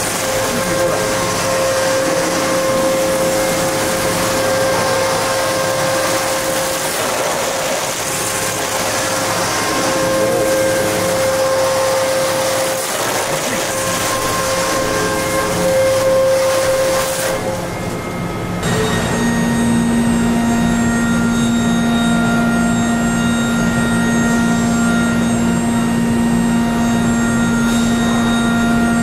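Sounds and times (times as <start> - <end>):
face mill high tone: 0.0 - 29.0.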